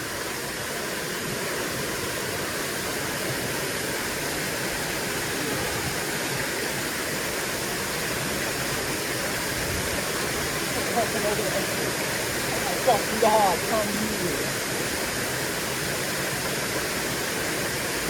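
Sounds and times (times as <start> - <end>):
water rushing over spillway: 0.0 - 18.0.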